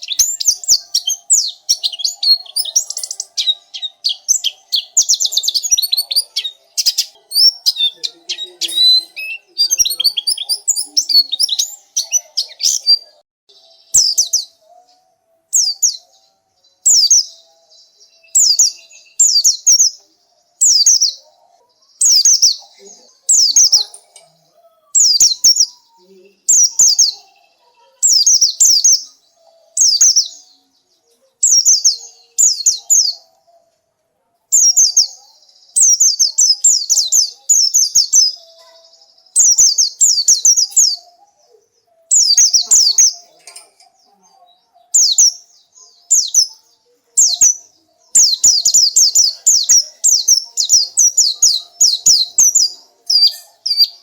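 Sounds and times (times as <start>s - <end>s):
bird rapid high chirping: 0.0s - 30.6s, 31.4s - 33.6s, 34.5s - 54.0s.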